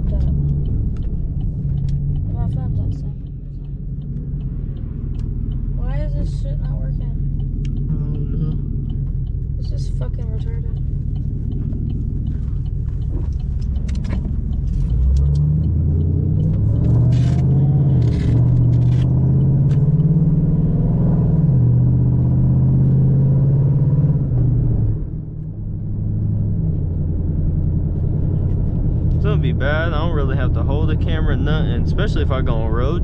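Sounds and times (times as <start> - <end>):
car exhaust drone: 0.0 - 33.0.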